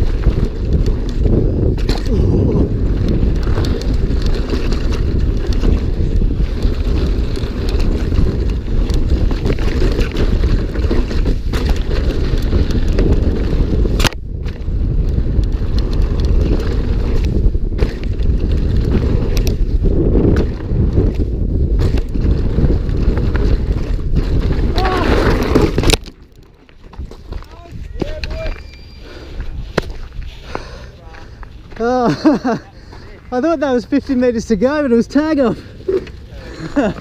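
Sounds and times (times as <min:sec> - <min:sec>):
bike rattling over rough ground: 0:00.0 - 0:37.0
wind buffeting microphone: 0:00.0 - 0:37.0.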